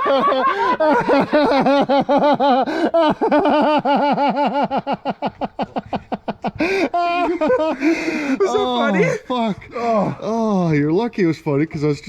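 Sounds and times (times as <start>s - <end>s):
man laughing hard: 0.0s - 10.4s.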